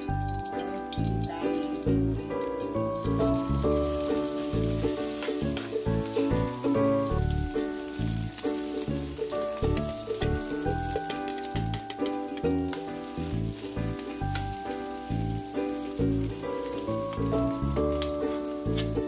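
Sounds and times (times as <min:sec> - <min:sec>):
rice sizzling in a pan: 0:00.0 - 0:19.0.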